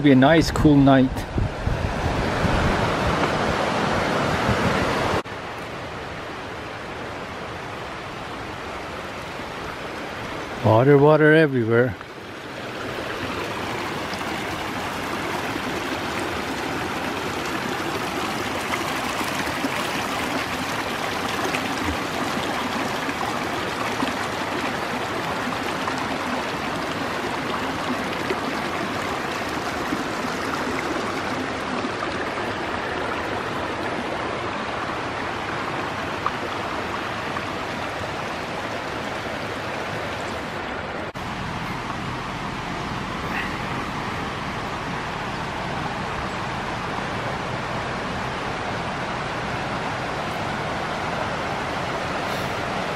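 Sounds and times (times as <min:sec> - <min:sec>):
creek flowing over rocks: 0:00.0 - 0:52.9.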